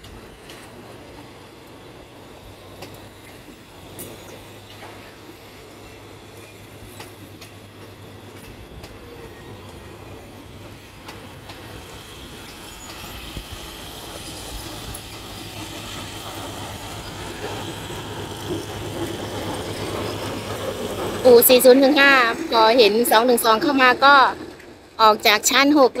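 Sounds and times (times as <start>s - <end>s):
train rumble: 0.0s - 26.0s
train wheels clicking on rail joints: 0.0s - 26.0s.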